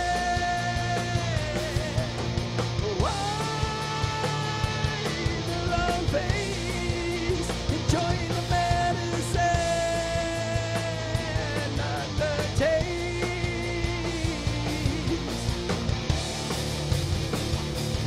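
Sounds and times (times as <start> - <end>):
metal band playing live: 0.0 - 18.0.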